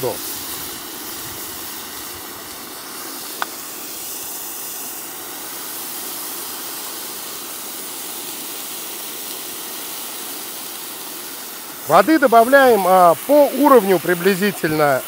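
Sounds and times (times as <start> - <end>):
water sizzling in hot pot: 0.0 - 15.0.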